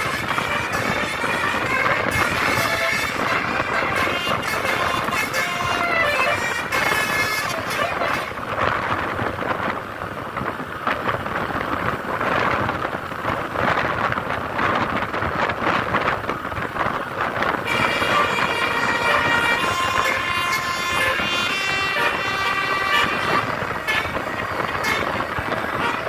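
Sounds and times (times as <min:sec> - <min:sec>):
bus traffic rumbling: 0:00.0 - 0:26.0
wind on microphone: 0:00.0 - 0:26.0.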